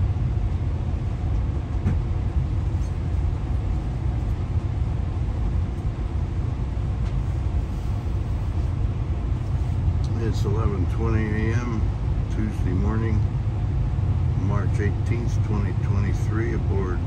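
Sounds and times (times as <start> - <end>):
train rumbling in motion: 0.0 - 17.0.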